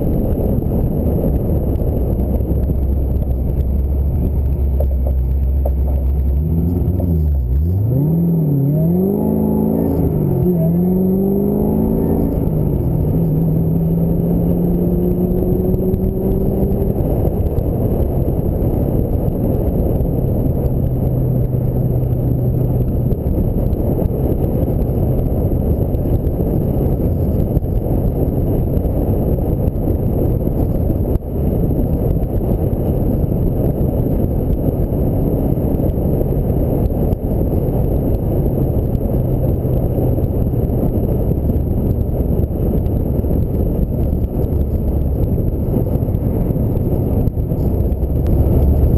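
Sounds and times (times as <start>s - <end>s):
car engine running: 0.0s - 48.9s
wind and road noise: 0.0s - 48.9s.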